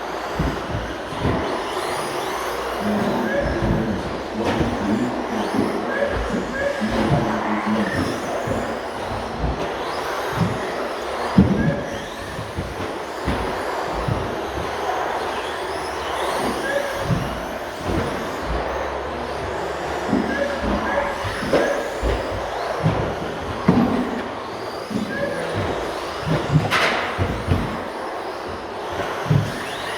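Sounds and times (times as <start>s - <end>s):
toy truck motors whining: 0.0s - 29.9s.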